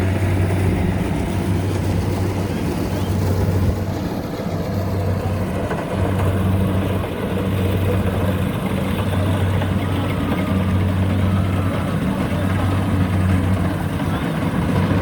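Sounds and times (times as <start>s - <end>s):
harvester engine droning: 0.0s - 15.0s.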